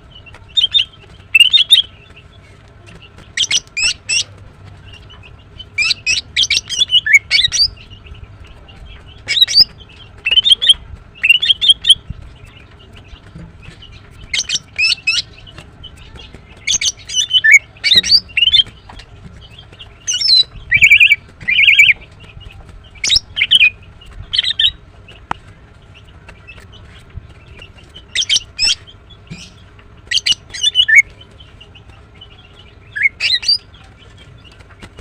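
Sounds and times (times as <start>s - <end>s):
bird calling in sharp chirps: 0.4s - 2.1s, 3.2s - 22.1s, 22.8s - 25.2s, 26.0s - 34.6s.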